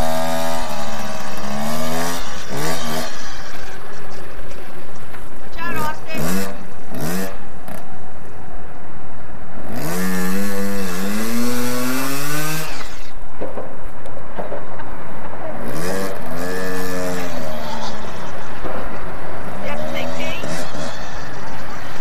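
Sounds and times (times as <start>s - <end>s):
wheel spinning in dirt: 0.0s - 5.4s, 9.6s - 22.0s
dirt bike engine revving: 0.0s - 8.2s, 9.1s - 13.3s, 15.4s - 22.0s.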